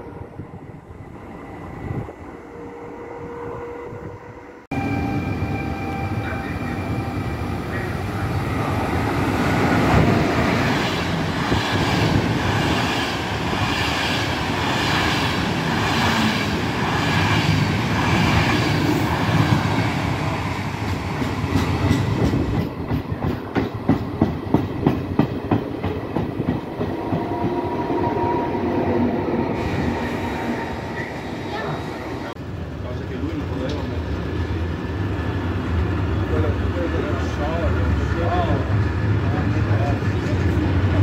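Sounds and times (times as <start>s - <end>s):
train rolling rumble: 0.0s - 41.0s.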